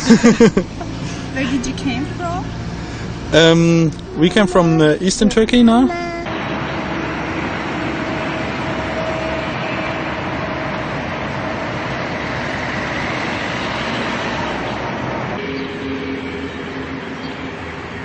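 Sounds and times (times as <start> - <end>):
vehicle running: 0.0 - 18.0.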